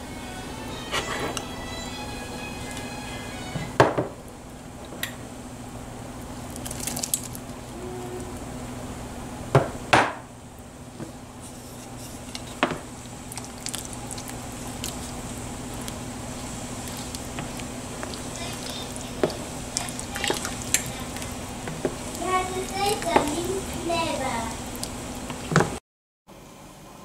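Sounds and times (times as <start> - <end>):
steady low hum: 0.0 - 25.8.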